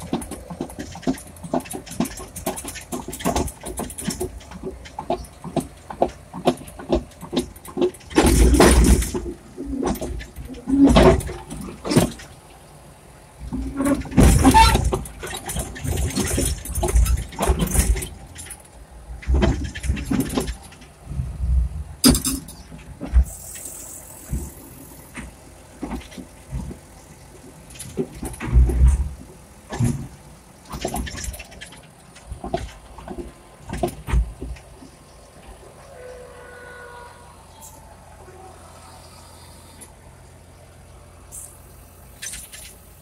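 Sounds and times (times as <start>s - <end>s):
clanks and rattles of steel tracks: 0.0s - 38.1s, 39.8s - 43.0s
diesel engine running: 0.0s - 43.0s.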